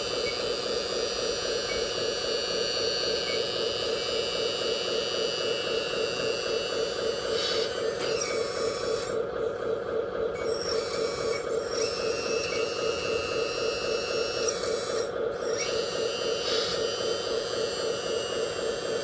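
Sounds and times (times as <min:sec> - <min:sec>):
electric pump motor hum: 0:00.0 - 0:19.0.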